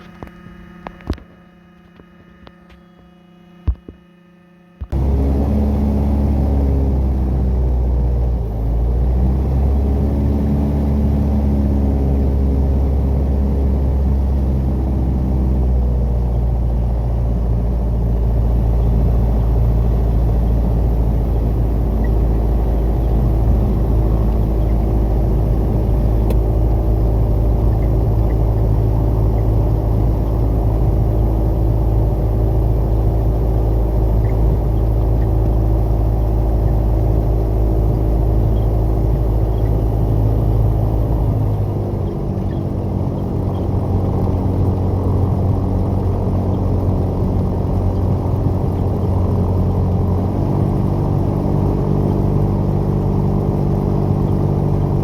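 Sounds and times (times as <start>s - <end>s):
aircraft piston engine droning: 0.0s - 55.0s.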